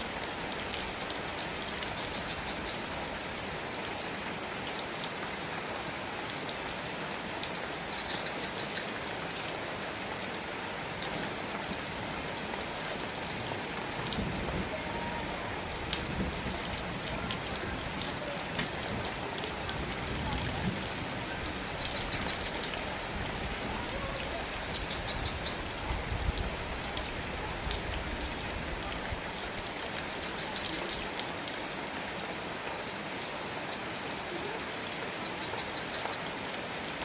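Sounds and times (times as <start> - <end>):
sharp raindrops striking close: 0.0 - 37.0
steady rain falling: 0.0 - 37.0.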